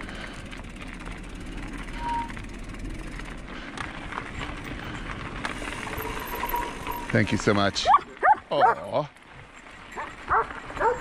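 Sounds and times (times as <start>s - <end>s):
bike clicks and rattles: 0.0s - 11.0s
bike tyres on dirt trail: 0.0s - 11.0s.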